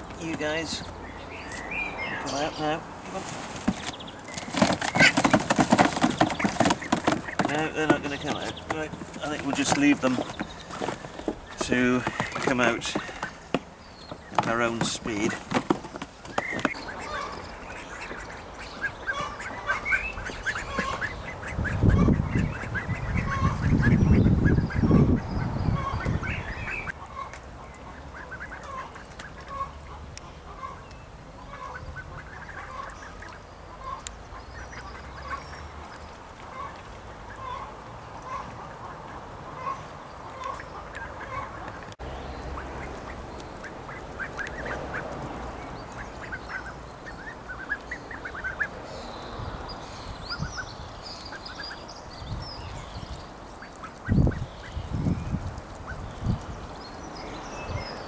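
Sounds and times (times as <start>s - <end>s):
ducklings peeping: 0.0s - 58.0s.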